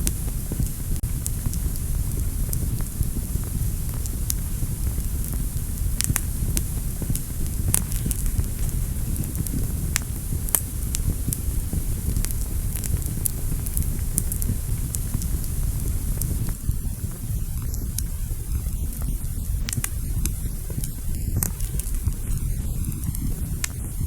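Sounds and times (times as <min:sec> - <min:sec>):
fire rumbling in fireplace: 0:00.0 - 0:24.0
wood crackling and popping: 0:00.0 - 0:24.0.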